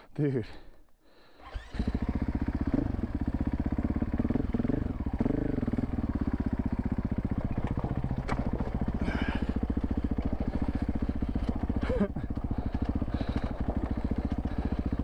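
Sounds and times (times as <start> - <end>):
dirt bike engine idling and revving: 1.3 - 15.0.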